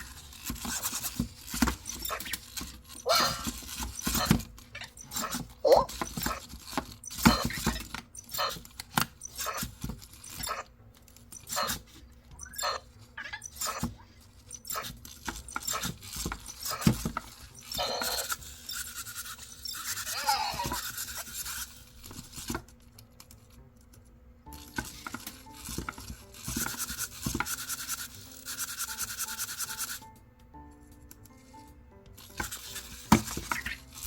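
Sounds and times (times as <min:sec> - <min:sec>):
small motors clicking and tapping: 0:00.0 - 0:34.0.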